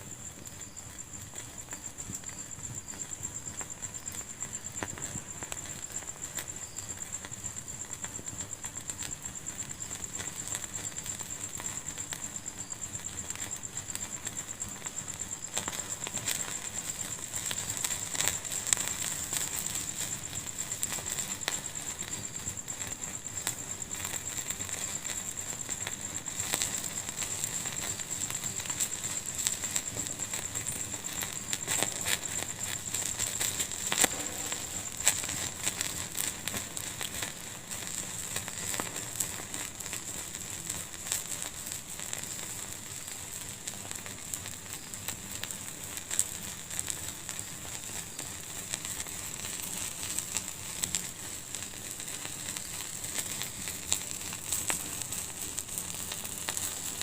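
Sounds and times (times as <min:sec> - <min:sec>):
fire crackling with pops: 0:00.0 - 0:57.0
thin high-pitched hiss: 0:00.0 - 0:57.0.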